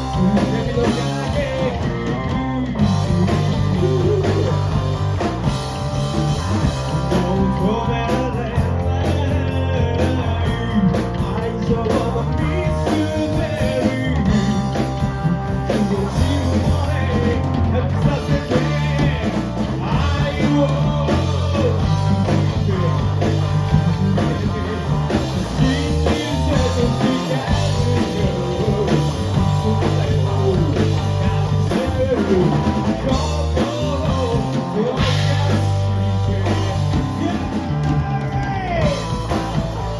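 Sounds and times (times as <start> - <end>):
person singing: 0.0 - 5.4, 6.4 - 39.6
bass guitar: 0.0 - 39.9
drums: 0.0 - 39.9
electric guitar: 0.0 - 39.9.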